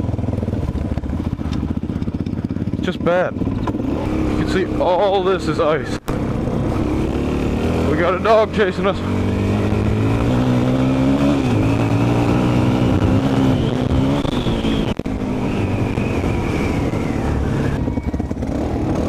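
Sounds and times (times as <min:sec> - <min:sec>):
motorcycle engine under throttle: 0:00.0 - 0:19.0.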